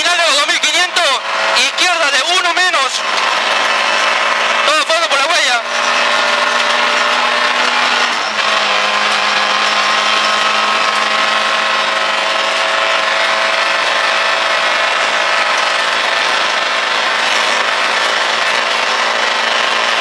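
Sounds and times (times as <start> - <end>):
rally car engine revving high: 0.0 - 20.0
road noise rush: 0.0 - 20.0.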